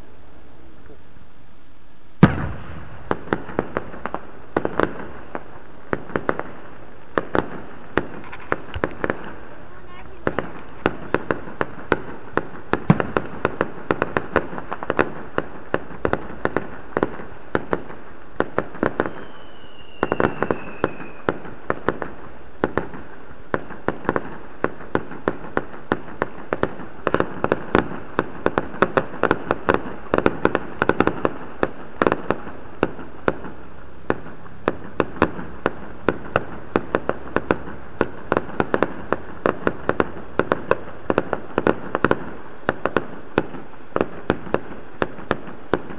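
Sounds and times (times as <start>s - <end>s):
fireworks bursts and crackles: 0.0s - 45.9s
loud firework reports: 2.2s - 45.9s.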